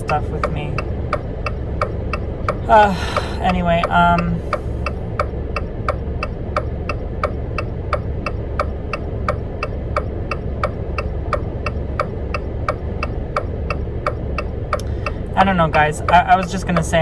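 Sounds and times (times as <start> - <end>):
engine and road hum: 0.0 - 17.0
turn signal ticking: 0.0 - 17.0.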